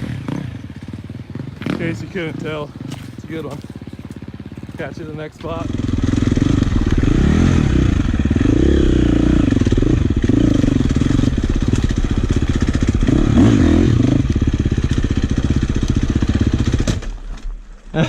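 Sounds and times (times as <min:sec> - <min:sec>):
dirt bike engine revving: 0:00.0 - 0:17.2.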